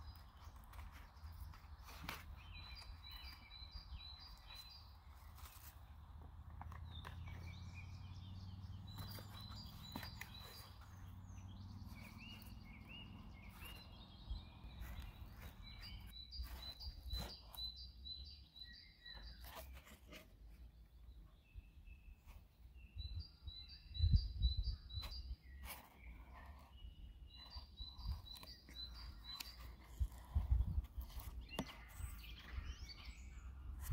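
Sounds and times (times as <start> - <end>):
songbirds chirping: 0.0 - 33.9.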